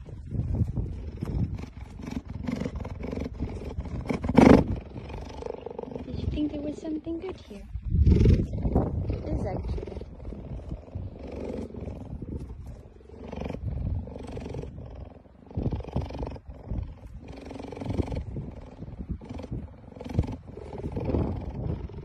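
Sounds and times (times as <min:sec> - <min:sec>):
cheetah purring: 0:00.0 - 0:22.0.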